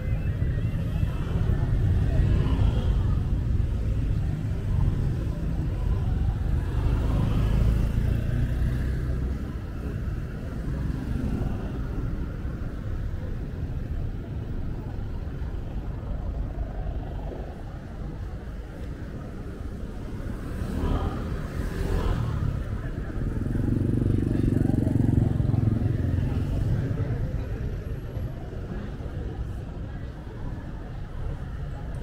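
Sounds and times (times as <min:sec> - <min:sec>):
car and motorbike engines: 0:00.0 - 0:32.0.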